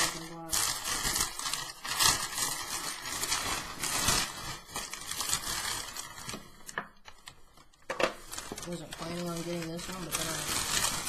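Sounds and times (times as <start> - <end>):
packing paper crinkling and tearing: 0.0 - 11.0.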